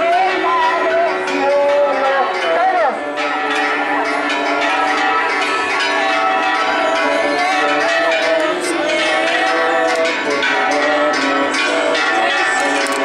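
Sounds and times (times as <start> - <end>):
church bells ringing: 0.0 - 13.0
people's voices: 0.0 - 13.0.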